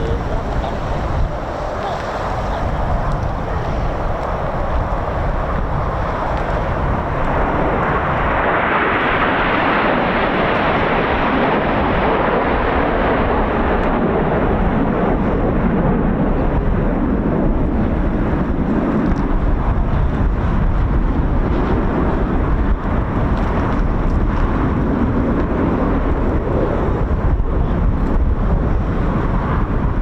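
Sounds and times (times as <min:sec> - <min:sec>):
gusting wind on microphone: 0:00.0 - 0:30.0
jet aircraft passing: 0:00.0 - 0:30.0.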